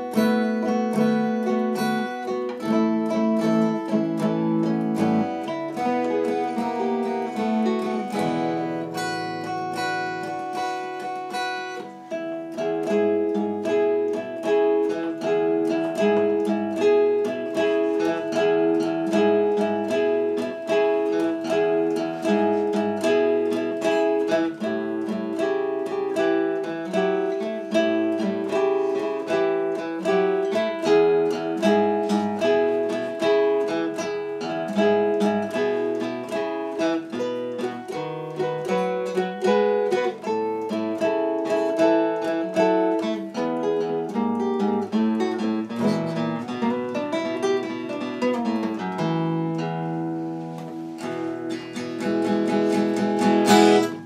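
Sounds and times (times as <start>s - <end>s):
acoustic guitar blues duet: 0.0s - 54.0s.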